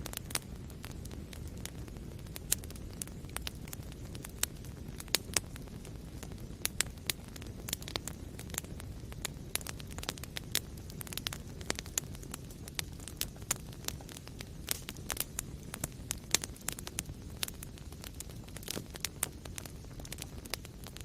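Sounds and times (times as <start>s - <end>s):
fire crackling and popping: 0.0s - 21.0s
low rumble of flames: 0.0s - 21.0s.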